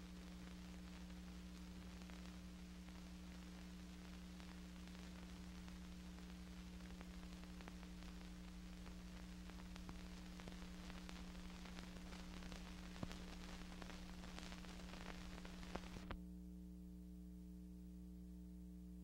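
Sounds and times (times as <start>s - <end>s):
film hiss and crackle: 0.0s - 16.2s
steady mains hum: 0.0s - 19.0s.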